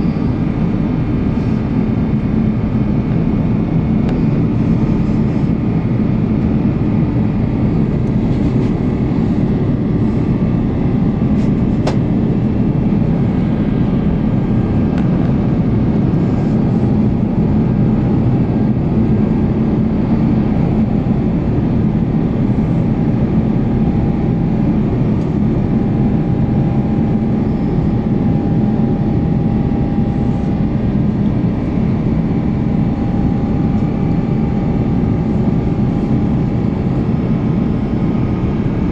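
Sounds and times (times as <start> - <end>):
jet engines roaring: 0.0 - 38.9
low hum: 0.0 - 38.9.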